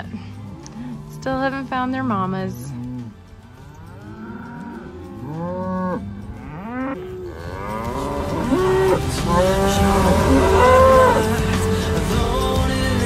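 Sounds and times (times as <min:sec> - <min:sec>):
cattle mooing: 0:00.0 - 0:11.7.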